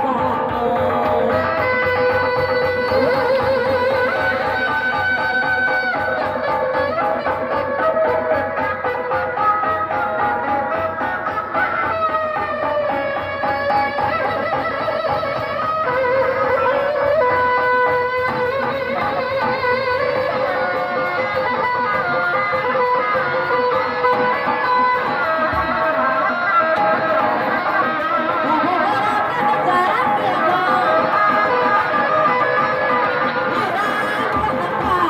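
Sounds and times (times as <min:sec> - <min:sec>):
traditional ensemble music: 0:00.0 - 0:35.0.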